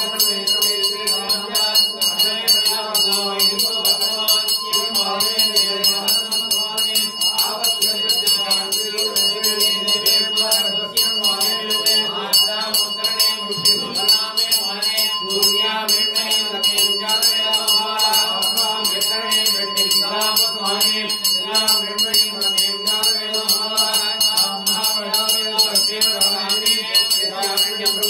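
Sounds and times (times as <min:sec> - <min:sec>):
hand bell ringing fast: 0:00.0 - 0:28.0
men chanting: 0:00.0 - 0:28.0.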